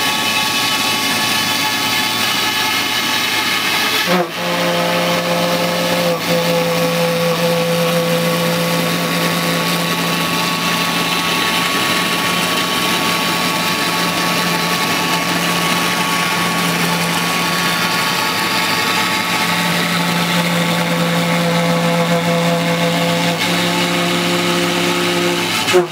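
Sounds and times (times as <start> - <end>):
cnc router spindle carving foam: 0.0 - 25.9.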